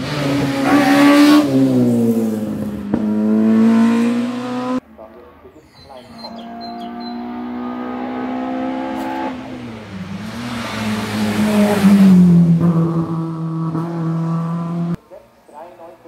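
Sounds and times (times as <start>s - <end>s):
race car engine at high revs: 0.0s - 4.8s, 6.1s - 15.0s.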